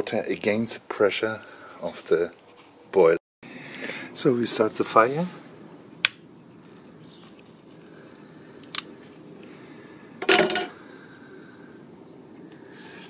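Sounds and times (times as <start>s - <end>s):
low steady background noise: 0.0s - 13.0s.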